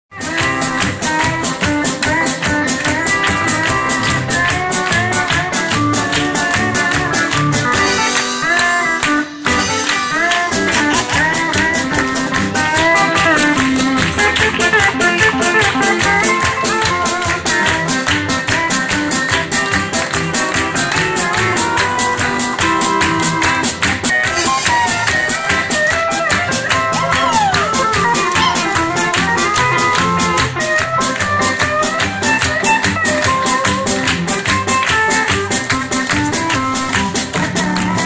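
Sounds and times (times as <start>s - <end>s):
country band playing: 0.1s - 38.0s
steady drum beat: 0.1s - 38.0s
pedal steel guitar bending notes: 0.2s - 38.0s.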